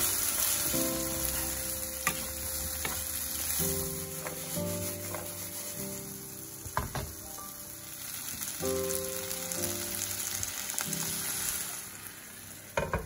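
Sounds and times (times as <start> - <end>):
background music: 0.0 - 11.9
food sizzling in frying pan: 0.0 - 13.0.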